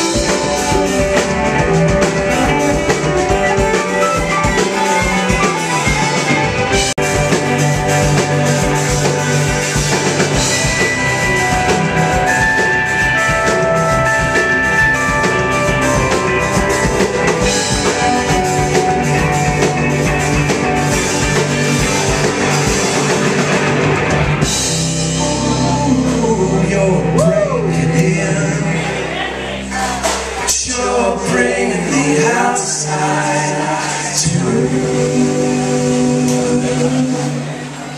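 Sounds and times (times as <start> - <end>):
bass guitar: 0.0 - 37.9
drum kit: 0.0 - 37.9
electric guitars: 0.0 - 37.9
keyboard: 0.0 - 37.9.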